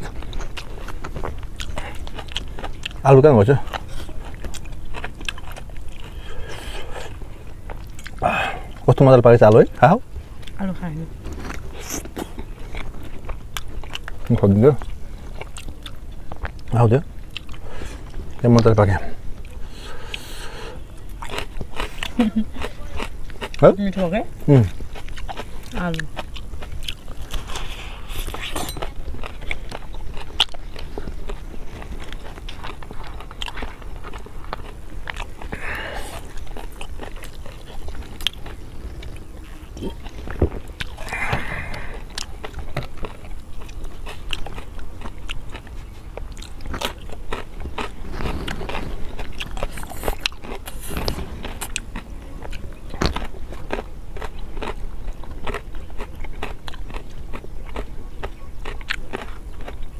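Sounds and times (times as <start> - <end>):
people chewing and biting food: 0.0 - 59.9.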